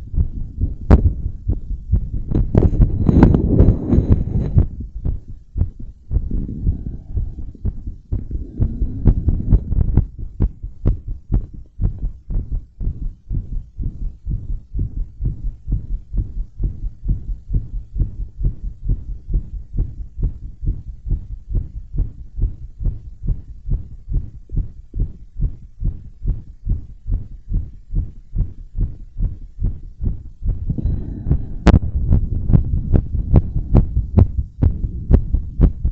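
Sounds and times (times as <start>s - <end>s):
heartbeat thumps: 0.0s - 35.9s.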